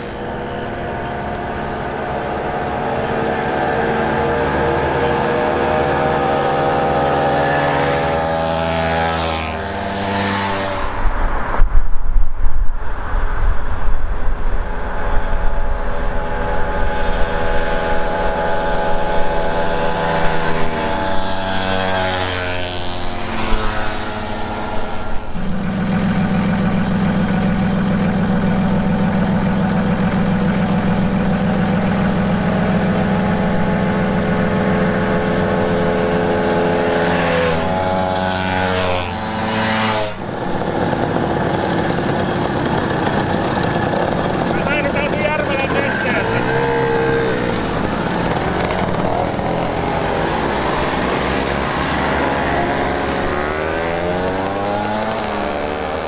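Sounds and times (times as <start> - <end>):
moped engines running: 0.0 - 11.3, 14.6 - 56.0.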